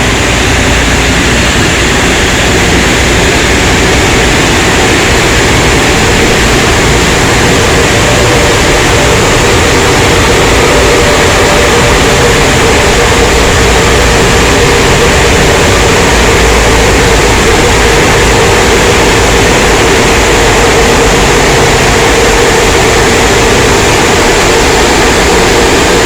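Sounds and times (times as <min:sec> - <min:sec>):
car wash machinery rushing: 0:00.0 - 0:26.0
faint hum: 0:00.0 - 0:26.0.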